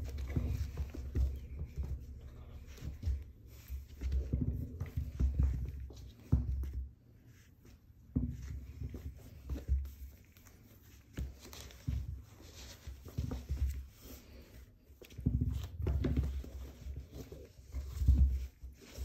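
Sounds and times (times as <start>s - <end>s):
puppy pawing balls on rug: 0.0s - 19.0s.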